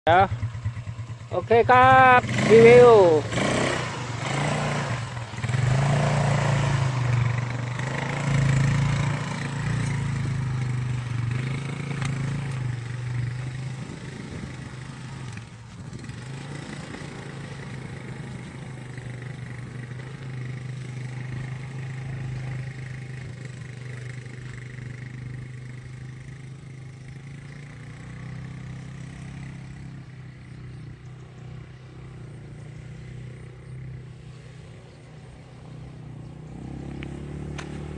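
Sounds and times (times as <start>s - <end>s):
atv engine running: 0.1s - 37.9s.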